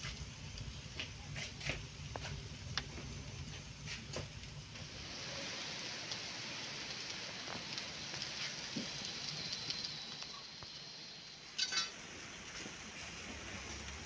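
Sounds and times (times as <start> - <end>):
meat sizzling on a grill: 0.0 - 14.0
small crackles: 0.0 - 14.0.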